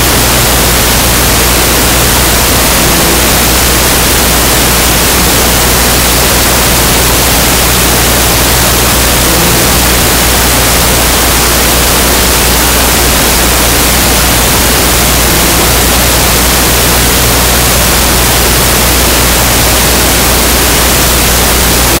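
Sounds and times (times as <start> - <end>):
loud static hiss: 0.0 - 22.0
low hum: 0.0 - 22.0.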